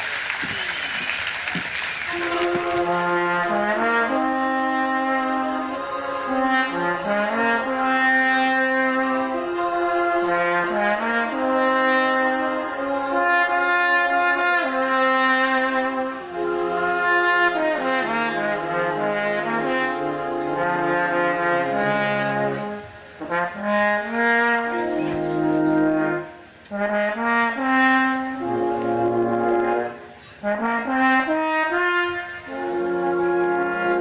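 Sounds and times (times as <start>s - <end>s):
brass band playing chords: 2.0s - 34.0s.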